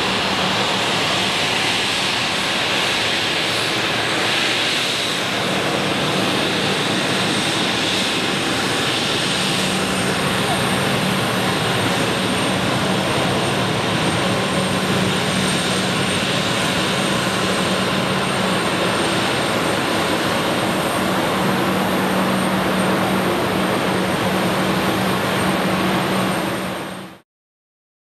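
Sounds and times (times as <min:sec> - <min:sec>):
jet engines at taxi power: 0:00.0 - 0:27.2.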